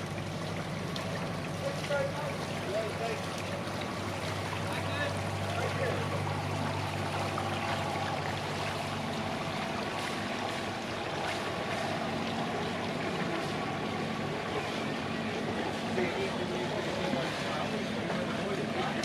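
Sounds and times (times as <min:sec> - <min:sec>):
boat engine humming: 0:00.0 - 0:19.0
wind and water hiss: 0:00.0 - 0:19.0.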